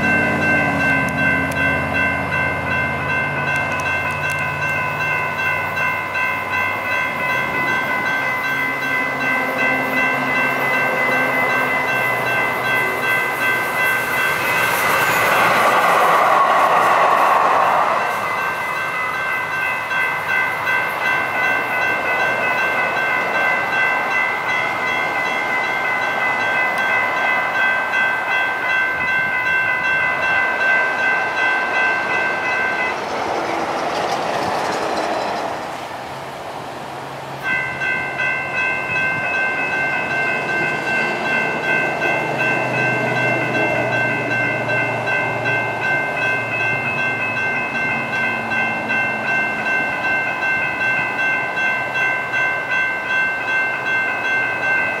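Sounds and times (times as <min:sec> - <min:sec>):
crossing warning bell ringing: 0:00.0 - 0:55.0
train passing: 0:00.0 - 0:55.0.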